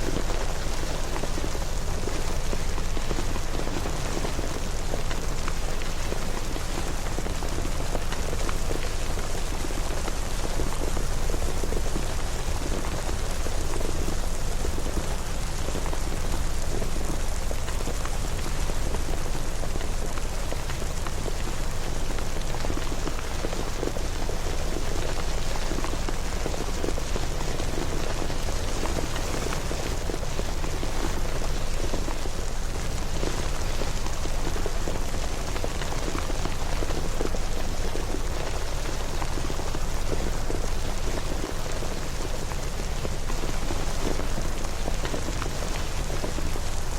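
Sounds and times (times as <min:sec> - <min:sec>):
rain patter: 0:00.0 - 0:46.9.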